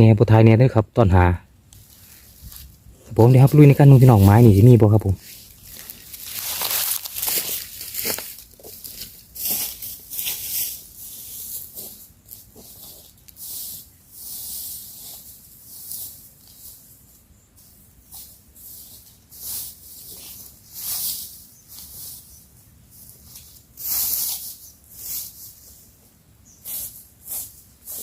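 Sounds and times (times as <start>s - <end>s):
rustling swishes: 1.8s - 28.0s.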